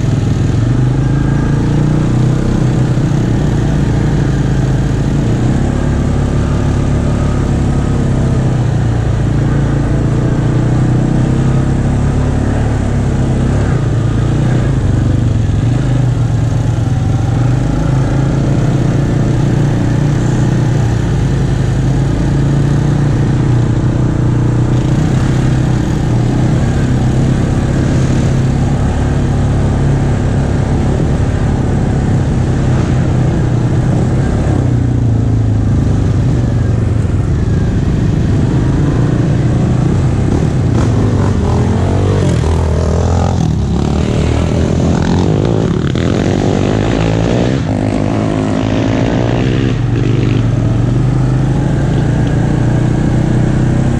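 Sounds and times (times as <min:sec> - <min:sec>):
off-road vehicle engine running: 0:00.0 - 0:53.9.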